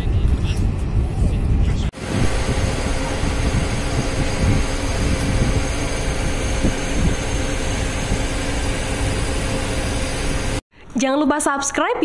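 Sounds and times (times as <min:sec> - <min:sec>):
constant hum: 0:00.0 - 0:10.6
machinery rumble: 0:00.0 - 0:10.6.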